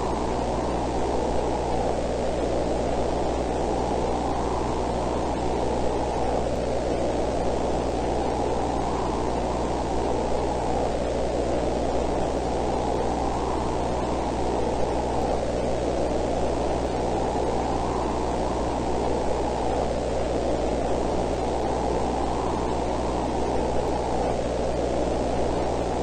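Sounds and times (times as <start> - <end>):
faint low hum: 0.0 - 26.0
muffled rushing static noise: 0.0 - 26.0.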